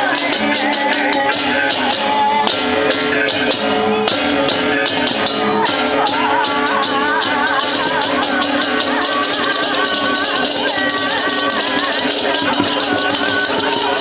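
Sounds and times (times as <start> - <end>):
ringing metallophone tones: 0.0 - 14.0
small cymbals clashing: 0.0 - 14.0
wavering high melody: 0.0 - 14.0.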